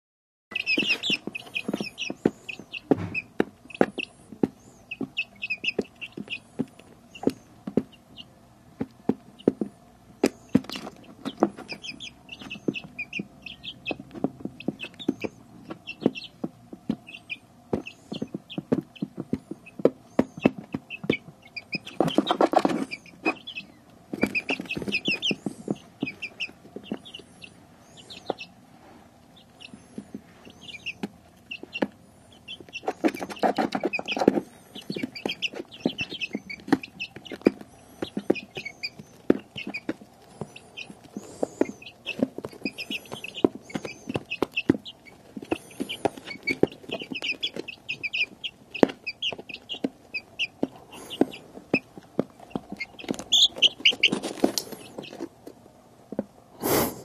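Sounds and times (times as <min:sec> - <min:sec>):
chicks peeping: 0:00.5 - 0:57.0.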